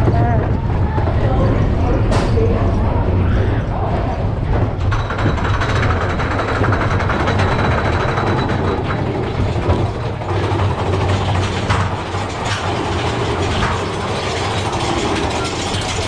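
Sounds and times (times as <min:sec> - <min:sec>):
roller coaster cars rumbling: 0:00.0 - 0:16.0.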